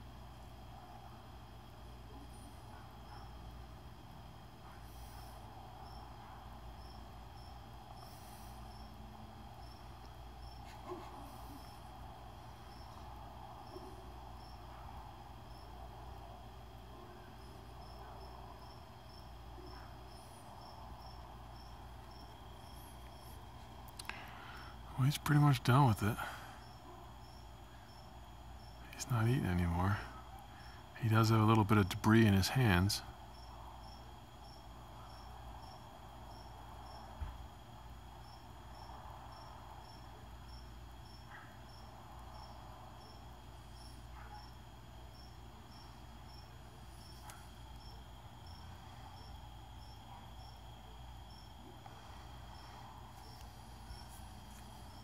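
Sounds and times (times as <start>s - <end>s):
cricket chirping: 0.0s - 55.0s
low steady hum: 0.0s - 55.0s.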